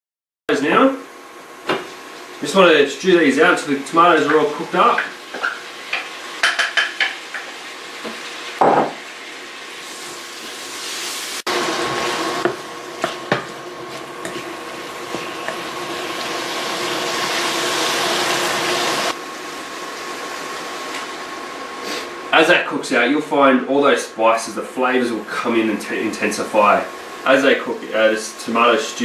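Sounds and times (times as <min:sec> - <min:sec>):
tomatoes sizzling in oil: 0:00.6 - 0:22.3, 0:24.7 - 0:29.0.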